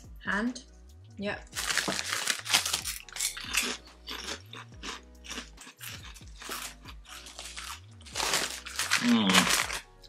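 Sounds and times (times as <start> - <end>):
background music: 0.0 - 10.0
people crunching crisps: 1.6 - 10.0.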